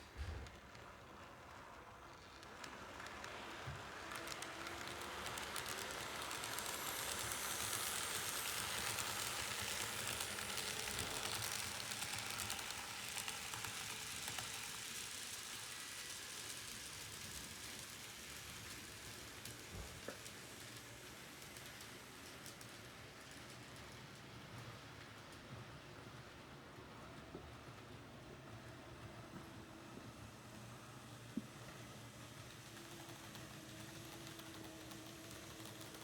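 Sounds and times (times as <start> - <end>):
train passing on track: 0.0 - 36.0.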